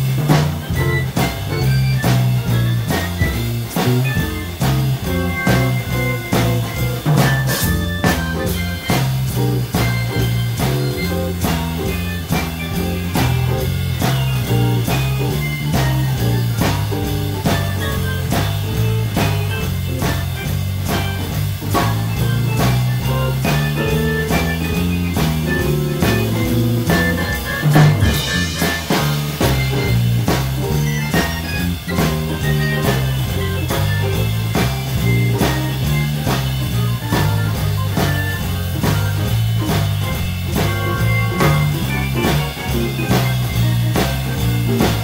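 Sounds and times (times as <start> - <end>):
bass line: 0.0 - 45.0
drum kit beat: 0.0 - 45.0
electric guitar: 0.0 - 45.0
keyboard: 0.0 - 45.0.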